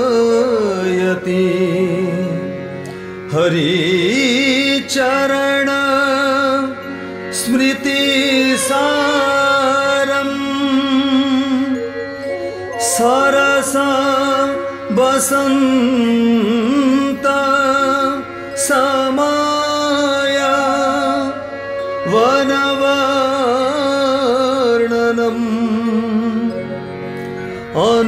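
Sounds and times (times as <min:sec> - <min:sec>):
classical melody over drone: 0:00.0 - 0:28.0.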